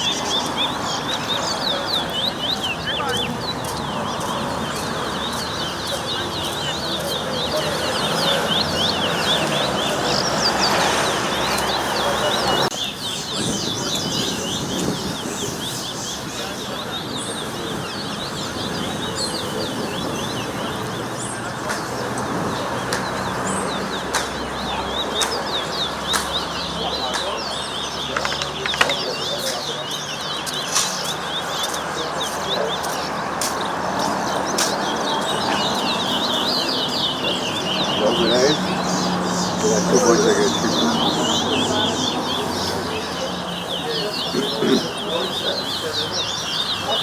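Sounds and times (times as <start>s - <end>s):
songbird singing: 0.0s - 47.0s.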